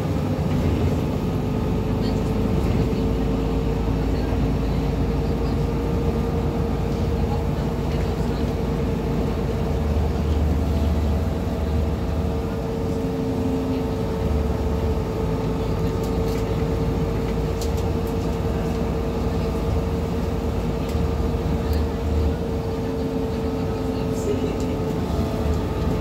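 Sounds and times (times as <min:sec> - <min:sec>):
bus engine rumble: 0:00.0 - 0:26.0
drivetrain whine: 0:00.0 - 0:26.0.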